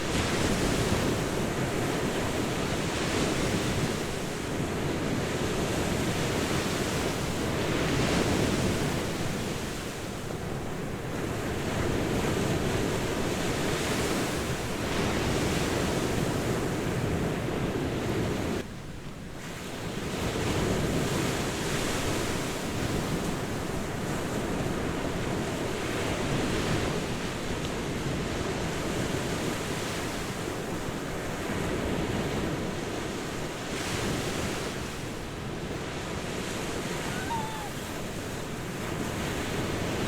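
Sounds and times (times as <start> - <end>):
ocean surf on beach: 0.0 - 40.0.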